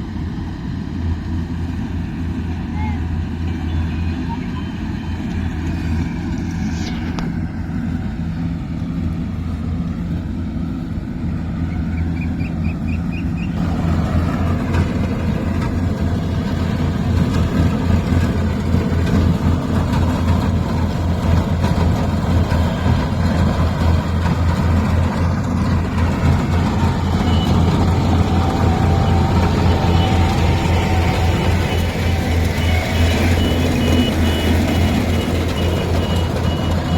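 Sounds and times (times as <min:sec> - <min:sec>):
farm machine diesel engine throbbing: 0:00.0 - 0:36.9.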